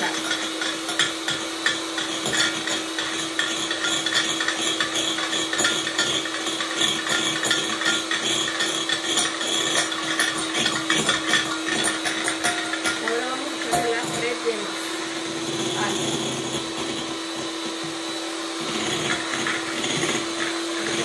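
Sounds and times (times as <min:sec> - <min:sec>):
beaters rattling against bowl: 0:00.0 - 0:17.2
electric hand mixer whipping: 0:00.0 - 0:21.0.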